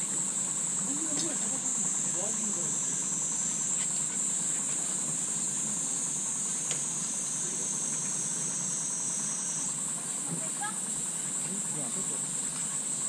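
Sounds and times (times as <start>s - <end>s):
insects shrilling: 0.3s - 13.0s.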